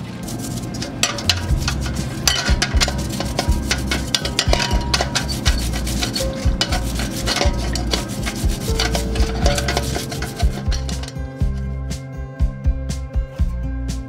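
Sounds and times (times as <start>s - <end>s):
toothbrush scrubbing wet metal: 0.0s - 11.7s.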